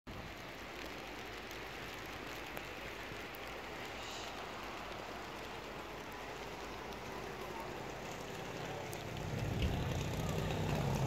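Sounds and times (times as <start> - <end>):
street ambience hiss: 0.1 - 11.0.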